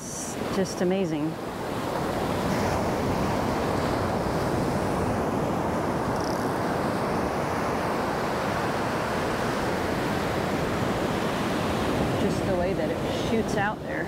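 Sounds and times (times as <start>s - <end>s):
surf washing over sand: 0.0s - 14.0s
waves breaking: 0.0s - 14.0s.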